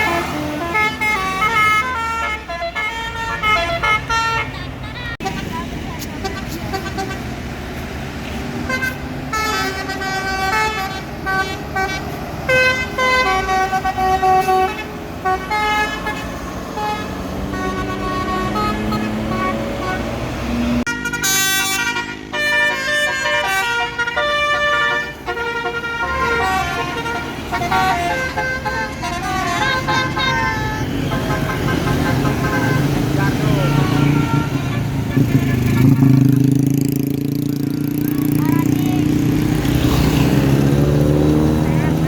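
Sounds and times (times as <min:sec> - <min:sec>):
bus engine pulling away: 0:00.0 - 0:42.0
bus traffic noise: 0:00.0 - 0:42.0
multi-tone bus horn melody: 0:00.0 - 0:42.0.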